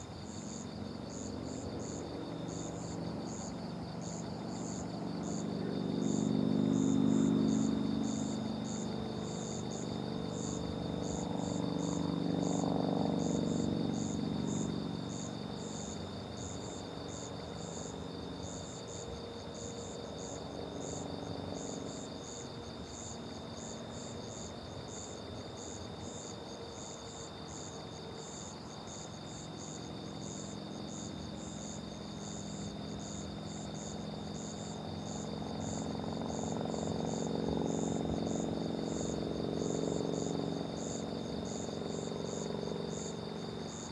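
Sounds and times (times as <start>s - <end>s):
crickets chirping: 0.0s - 43.9s
steady high insect trill: 0.0s - 43.9s.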